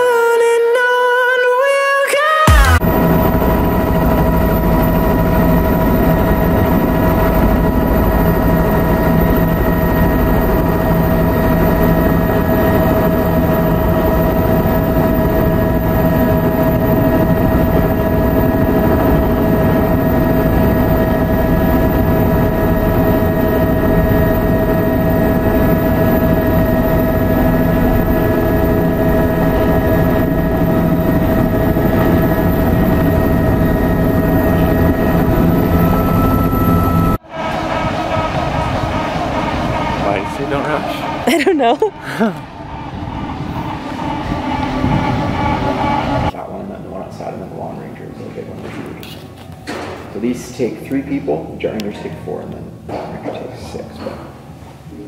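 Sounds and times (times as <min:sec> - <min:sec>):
helicopter engine and rotors: 0:02.4 - 0:55.0.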